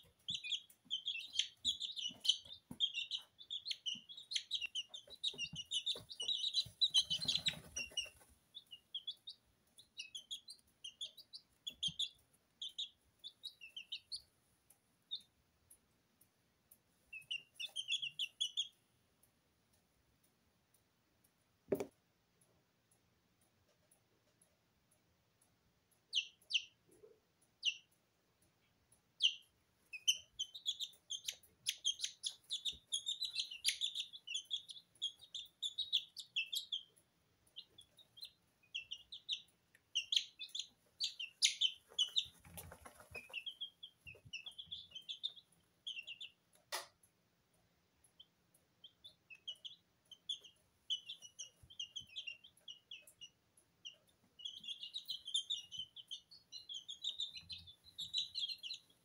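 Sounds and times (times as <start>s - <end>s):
chicks peeping: 0.0s - 20.2s, 21.7s - 59.0s.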